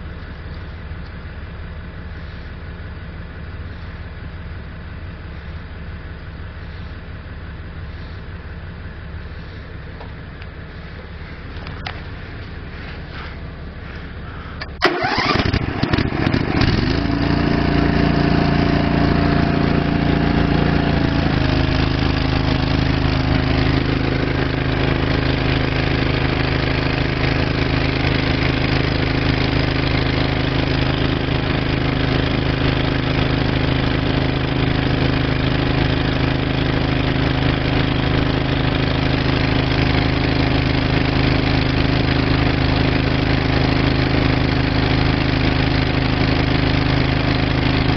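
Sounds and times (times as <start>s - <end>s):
hydraulic power pack engine running: 9.2s - 47.9s.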